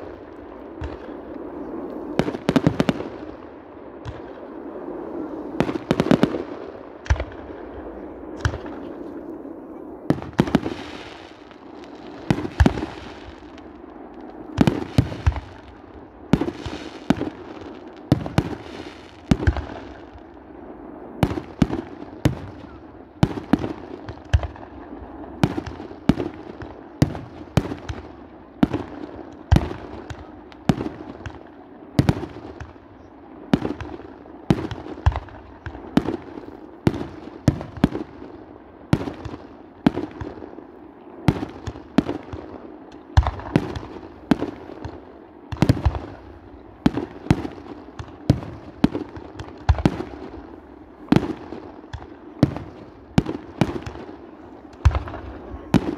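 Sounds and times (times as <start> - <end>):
firework bangs: 0.0 - 9.4, 10.0 - 55.9
firework crackle: 0.0 - 55.9.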